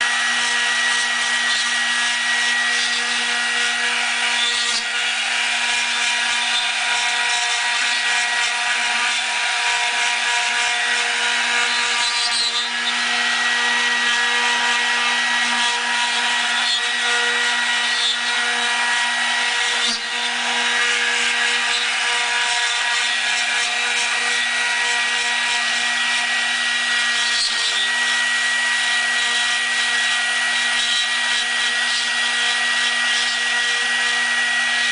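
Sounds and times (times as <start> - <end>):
bit cutting wood: 0.0 - 34.9
router spindle whine: 0.0 - 34.9.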